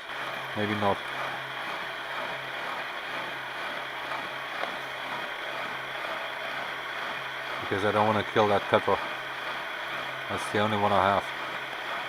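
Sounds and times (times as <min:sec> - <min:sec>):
milling machine motor hum: 0:00.0 - 0:12.0.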